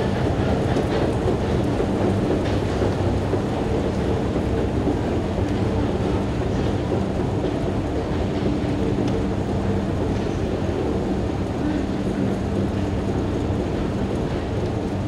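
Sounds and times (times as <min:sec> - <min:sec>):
escalator rumble and hum: 0:00.0 - 0:15.0.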